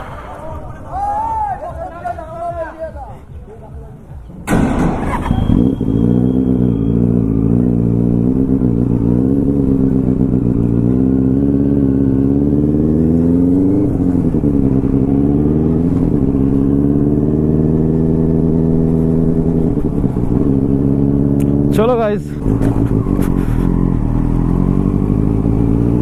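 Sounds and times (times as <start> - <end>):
motorcycle engine running: 4.5 - 26.0.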